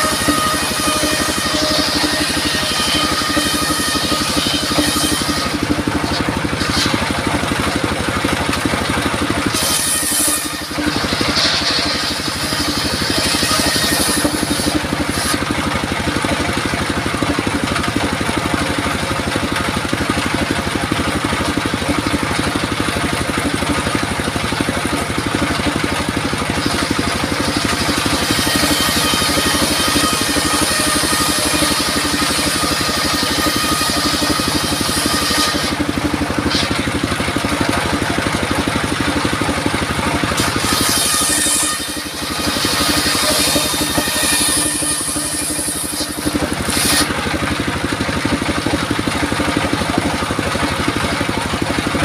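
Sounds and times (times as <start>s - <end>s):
engine-driven circular saw running: 0.0s - 52.0s.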